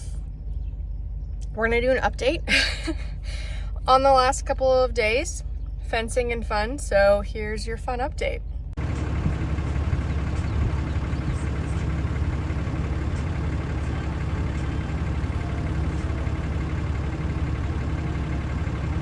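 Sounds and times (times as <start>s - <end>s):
vehicle engine idling low: 0.0s - 19.0s.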